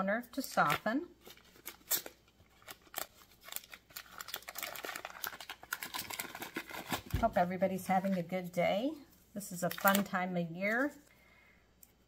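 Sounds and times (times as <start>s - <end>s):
paper wrapper crinkling: 0.3s - 8.6s, 9.5s - 11.1s.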